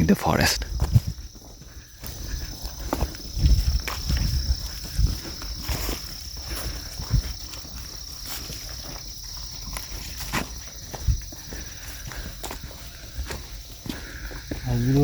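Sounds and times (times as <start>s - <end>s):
footsteps of people walking: 0.0s - 15.0s
high-pitched insect drone: 0.0s - 15.0s.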